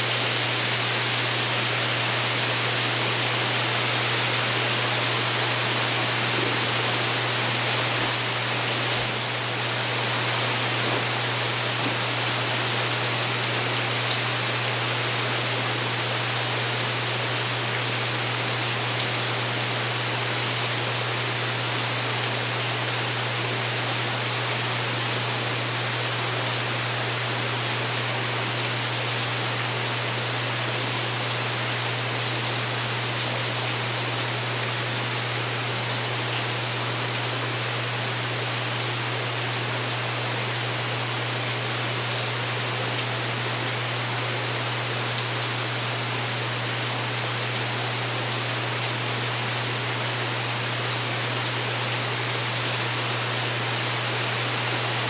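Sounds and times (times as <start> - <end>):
rain pattering on a roof: 0.1 - 55.0.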